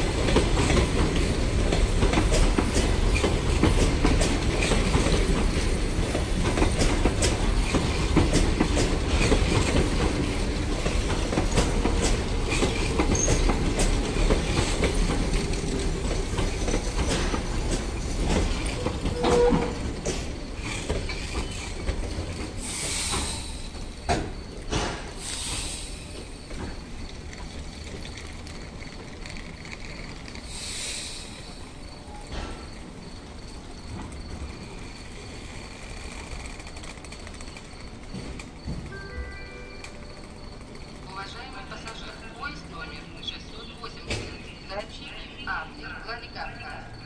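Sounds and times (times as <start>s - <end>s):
train brakes squealing: 0.0s - 27.1s, 30.4s - 47.0s
wheels clicking over rail joints: 0.0s - 42.7s
train coaches rumbling past: 0.0s - 47.0s.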